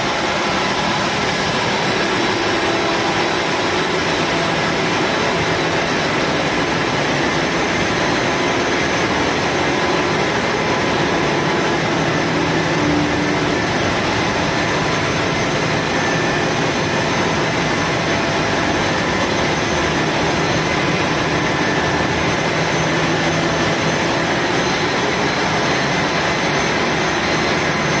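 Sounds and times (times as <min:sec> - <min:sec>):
engine room machinery drone: 0:00.0 - 0:28.0.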